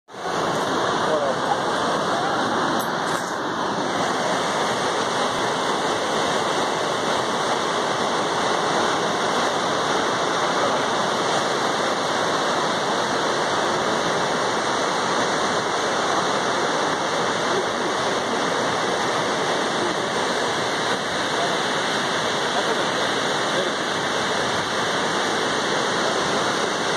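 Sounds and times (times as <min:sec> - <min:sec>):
waterfall rushing: 0:00.1 - 0:26.9.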